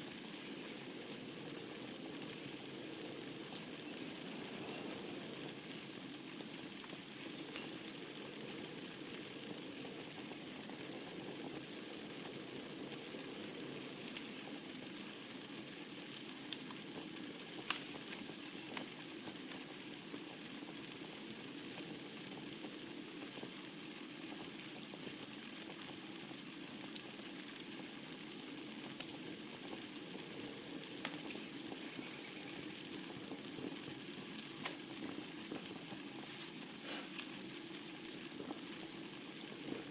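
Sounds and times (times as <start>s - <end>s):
burning logs crackling and popping: 0.0s - 39.9s
fire flames hissing: 0.0s - 39.9s.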